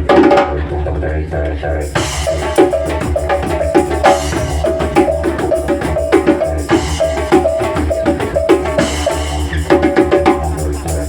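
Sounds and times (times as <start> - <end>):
didgeridoo drone: 0.0 - 11.0
drum kit groove: 1.8 - 11.0
hand percussion: 1.8 - 11.0.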